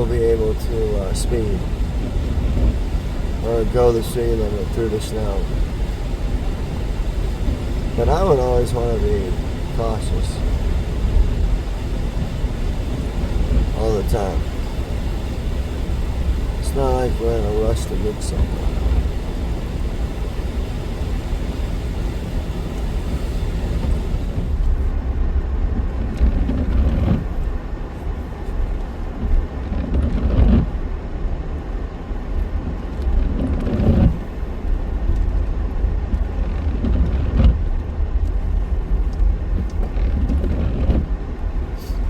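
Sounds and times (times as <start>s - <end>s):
tyre and engine rumble: 0.0s - 42.0s.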